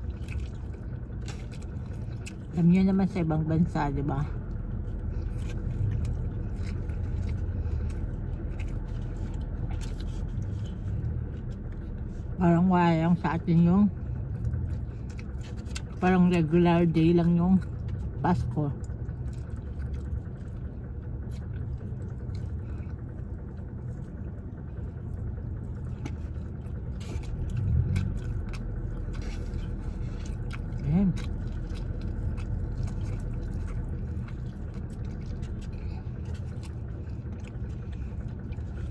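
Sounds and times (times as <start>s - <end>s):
person chewing and biting: 0.0s - 2.6s, 4.2s - 12.3s, 14.1s - 38.9s
car interior rumble: 0.0s - 38.9s.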